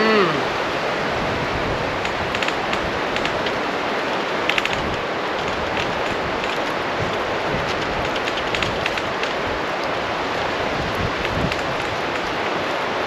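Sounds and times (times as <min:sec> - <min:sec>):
campfire crackling: 0:01.7 - 0:13.0.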